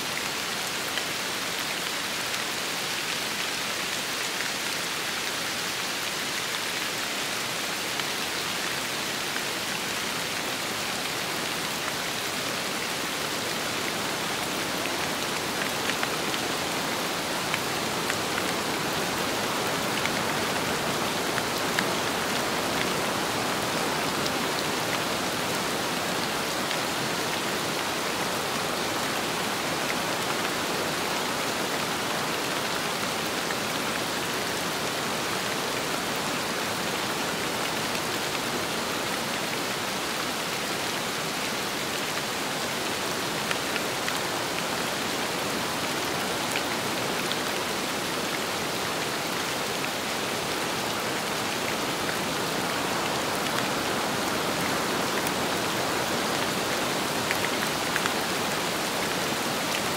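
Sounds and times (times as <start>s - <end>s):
rain and wind hiss: 0.0s - 59.9s.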